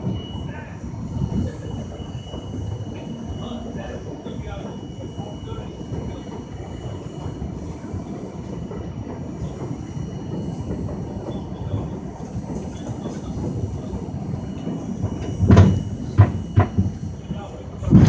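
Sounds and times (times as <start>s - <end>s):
subway wheels rumbling on track: 0.0s - 18.0s.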